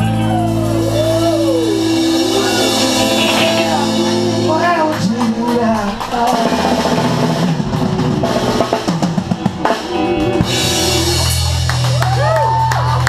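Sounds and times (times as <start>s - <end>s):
live band playing: 0.0s - 13.0s.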